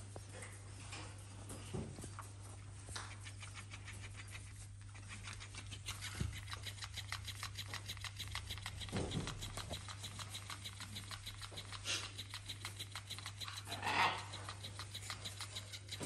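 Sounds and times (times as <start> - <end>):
low electrical hum: 0.0 - 16.0
raccoon rustling and snuffling: 0.0 - 16.0.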